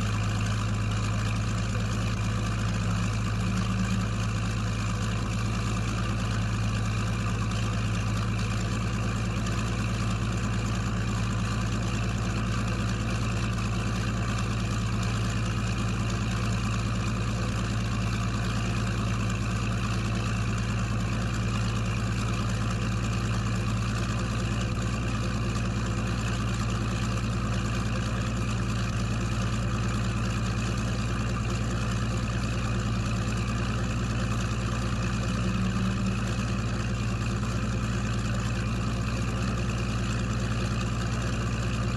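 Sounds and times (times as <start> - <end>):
engine drone with low hum: 0.0 - 41.9.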